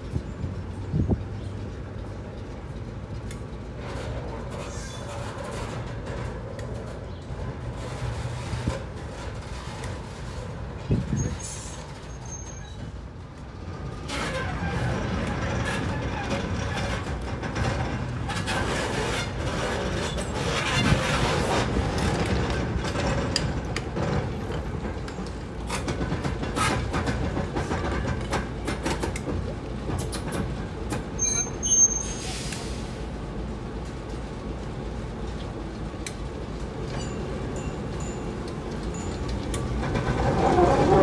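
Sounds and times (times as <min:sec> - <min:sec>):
diesel locomotive rumble: 0:00.0 - 0:41.0
train clicks and knocks: 0:00.0 - 0:41.0.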